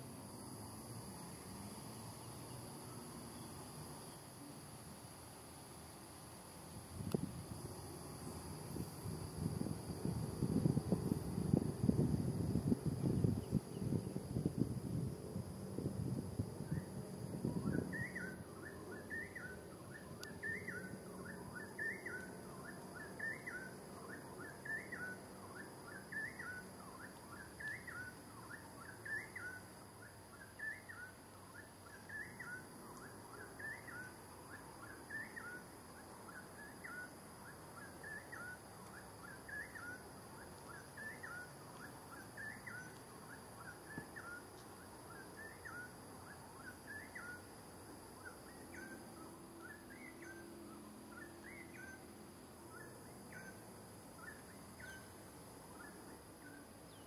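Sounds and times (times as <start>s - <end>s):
faint steady high hiss: 0.0s - 57.0s.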